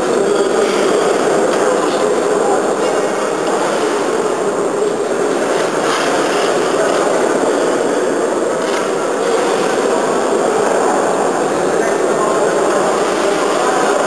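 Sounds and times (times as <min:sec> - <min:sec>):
sports hall background din: 0:00.0 - 0:14.0.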